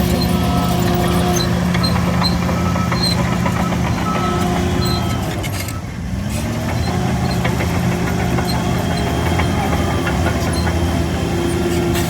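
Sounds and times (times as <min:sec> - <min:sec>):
bulldozer diesel engine under load: 0:00.0 - 0:12.0.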